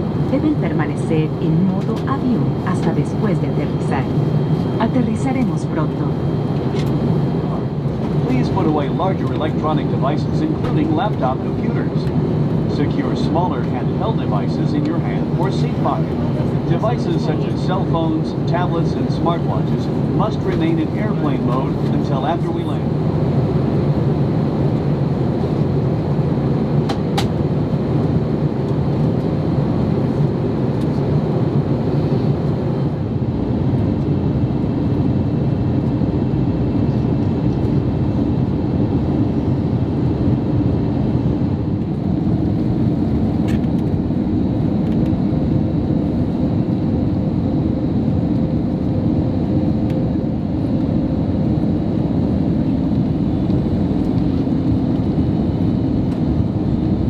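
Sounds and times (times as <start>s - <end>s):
airflow in aircraft cabin: 0.0s - 57.0s
jet engine drone: 0.0s - 57.0s.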